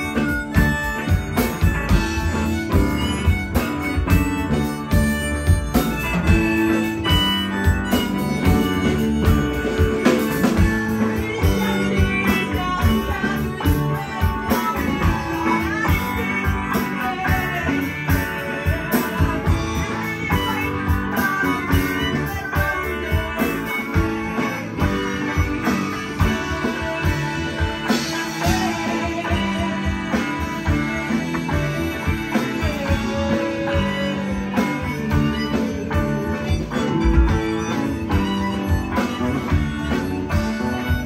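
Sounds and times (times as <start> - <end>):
drums: 0.0 - 41.0
electric guitar: 0.0 - 41.0
harmonica: 0.0 - 41.0
keyboard: 0.0 - 41.0.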